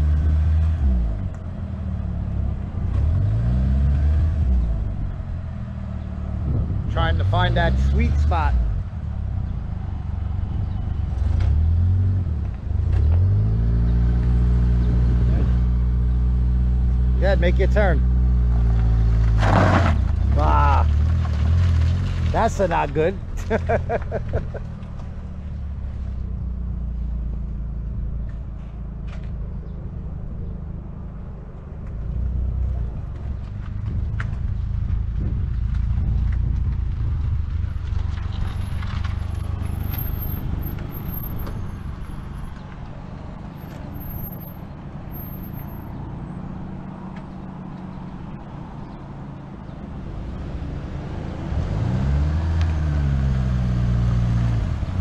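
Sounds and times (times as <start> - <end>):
car engine at low revs: 0.0 - 55.0.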